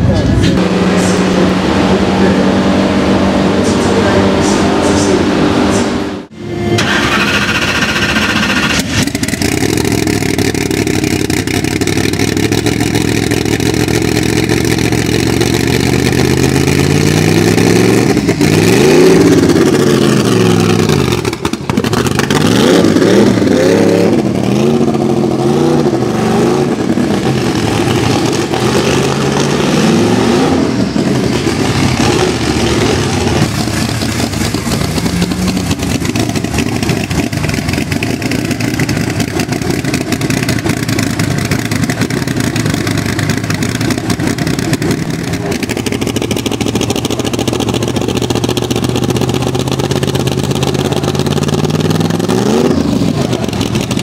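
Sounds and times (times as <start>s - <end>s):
race car engine revving and idling: 0.0s - 54.0s.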